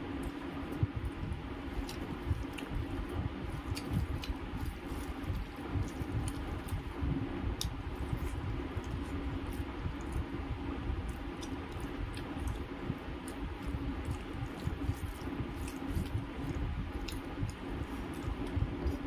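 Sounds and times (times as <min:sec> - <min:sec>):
fingers squishing food: 0:00.0 - 0:19.0
steady low hum: 0:00.0 - 0:19.0
chewing: 0:00.2 - 0:19.0.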